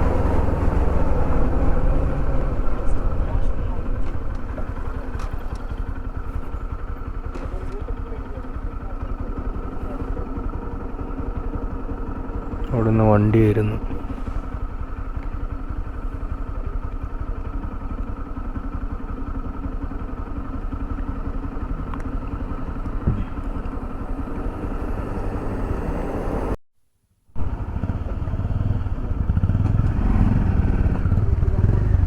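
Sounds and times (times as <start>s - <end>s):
motorcycle engine running: 0.0s - 26.6s, 27.4s - 32.0s.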